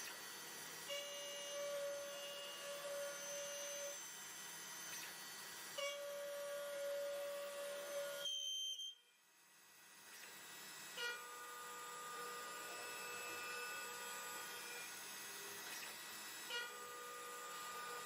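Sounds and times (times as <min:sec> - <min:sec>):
machine whine: 0:00.0 - 0:18.0.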